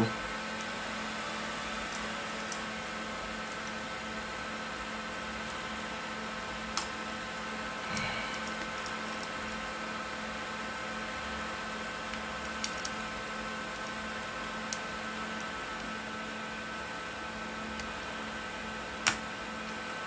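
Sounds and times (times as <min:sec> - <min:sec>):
background hum and hiss: 0:00.0 - 0:20.0.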